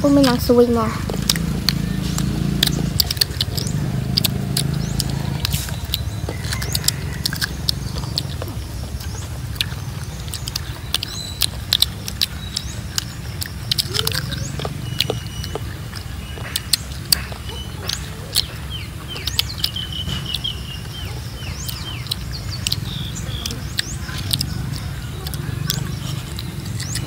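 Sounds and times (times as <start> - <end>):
crunchy fruit bites and chewing: 0.0 - 27.0
steady low rumble: 0.0 - 27.0.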